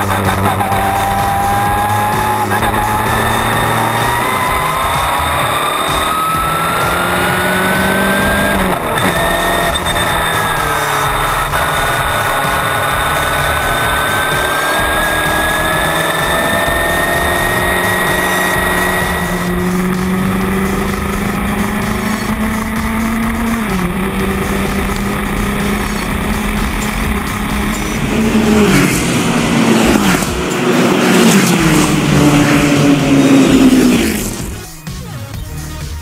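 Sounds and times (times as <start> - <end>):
race car engine with gear changes: 0.0 - 35.0.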